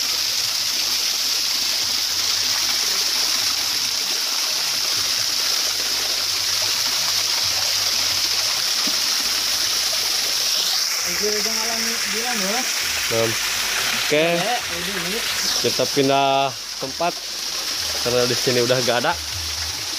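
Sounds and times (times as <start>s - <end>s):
constant high hiss: 0.0s - 19.9s
rushing water: 0.0s - 19.9s.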